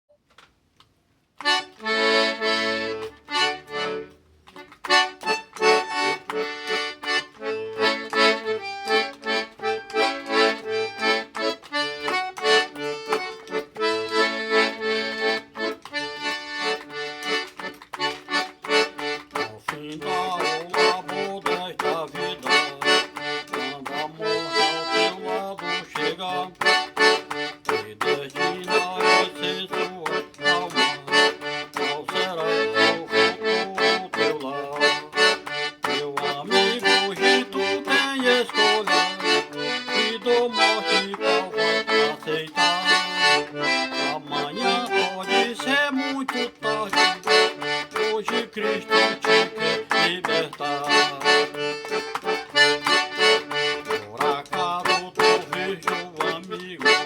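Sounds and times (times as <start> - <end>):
accordion playing slow hymn: 1.4 - 57.0.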